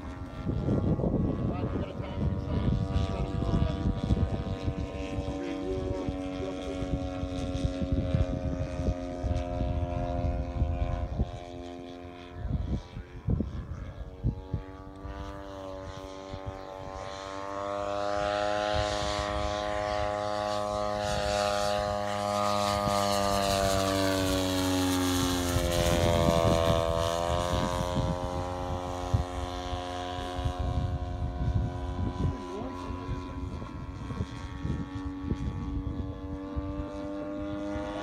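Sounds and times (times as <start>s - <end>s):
model plane engine drone fly-by: 0.0s - 38.0s.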